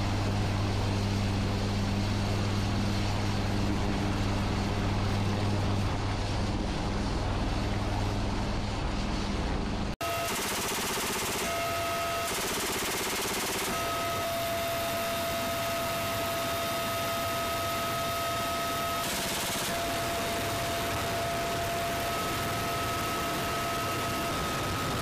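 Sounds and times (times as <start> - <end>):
helicopter cabin noise: 0.0 - 25.0
helicopter rotors turning: 0.2 - 25.0.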